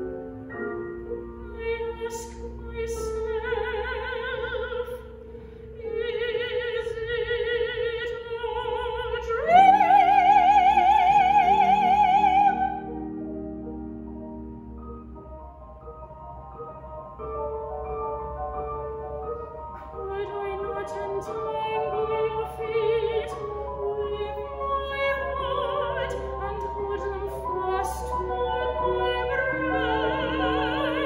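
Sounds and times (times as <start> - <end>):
grand piano accompaniment: 0.0 - 31.0.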